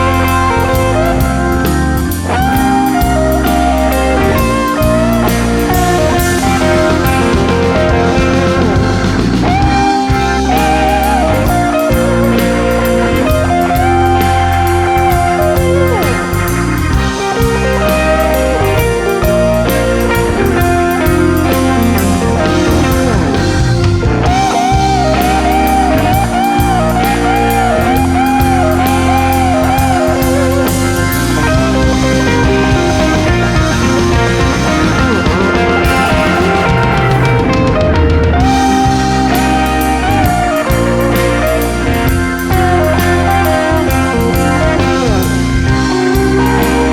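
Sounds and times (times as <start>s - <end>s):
bass guitar: 0.0s - 46.9s
blues-rock band playing: 0.0s - 46.9s
drums: 0.0s - 46.9s
lead guitar with vibrato: 0.0s - 46.9s.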